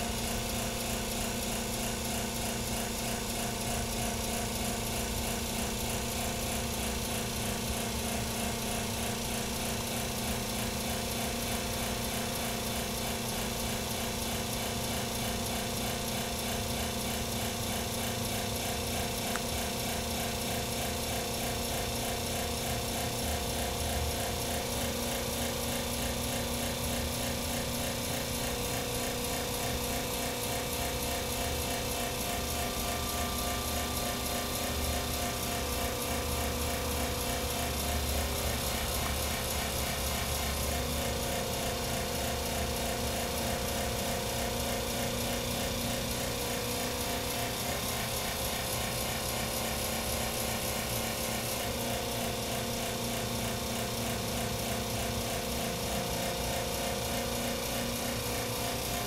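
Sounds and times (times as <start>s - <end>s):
electric fuel pump running: 0.0s - 59.0s.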